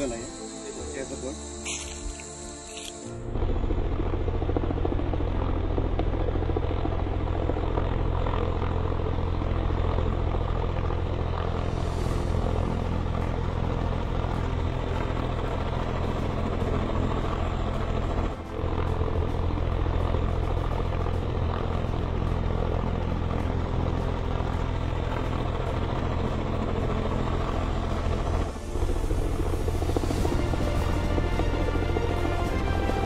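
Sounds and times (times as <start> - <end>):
helicopter rotor thrum: 1.5 - 33.0.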